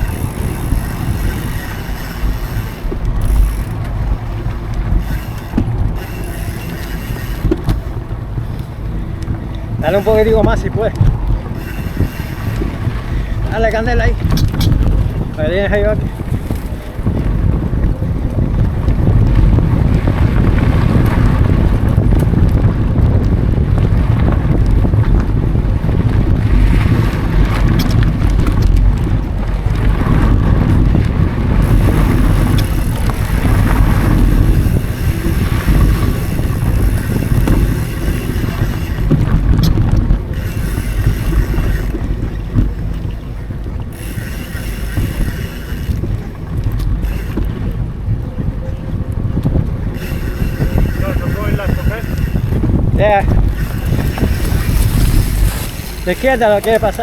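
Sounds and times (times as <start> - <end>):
bike clicks and rattles: 0.0 - 57.0
rumble of bike tyres on dirt: 0.0 - 57.0
wind buffeting microphone: 0.0 - 57.0.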